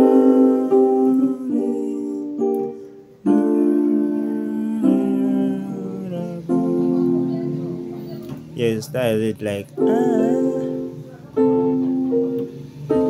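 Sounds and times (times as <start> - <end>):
piano chords on keyboard: 0.0 - 13.0.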